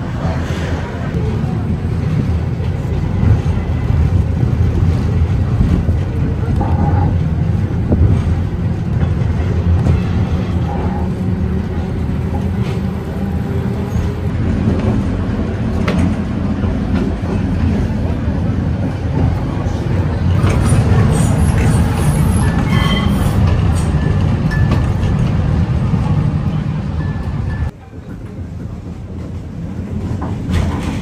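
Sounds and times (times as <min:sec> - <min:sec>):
tram clicks and rattles: 0:00.0 - 0:31.0
tram rumbling on rails: 0:00.0 - 0:31.0.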